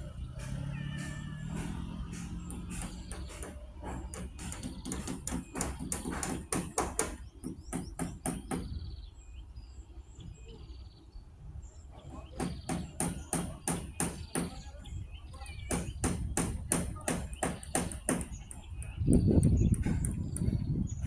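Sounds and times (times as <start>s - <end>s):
small birds chirping faintly: 0.0s - 21.0s.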